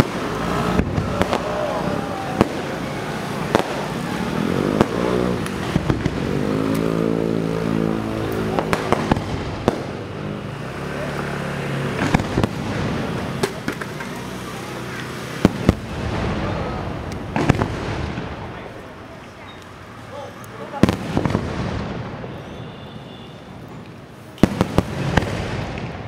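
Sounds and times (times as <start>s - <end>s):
firework bangs: 0.0s - 19.3s, 20.6s - 26.0s
fireworks hiss and crackle: 0.0s - 26.0s.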